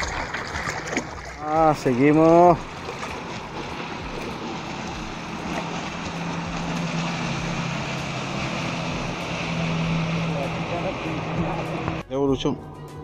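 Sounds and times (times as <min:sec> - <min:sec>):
wind and water hiss: 0:00.0 - 0:12.0
motorboat engine drone: 0:00.0 - 0:13.0.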